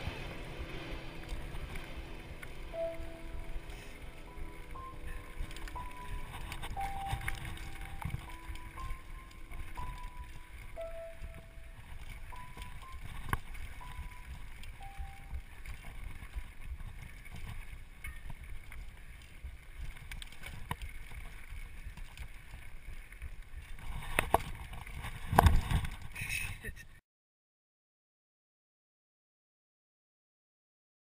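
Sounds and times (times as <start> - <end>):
mountain bike rolling on rocky trail: 0.0 - 26.6
wind on microphone: 0.0 - 26.7.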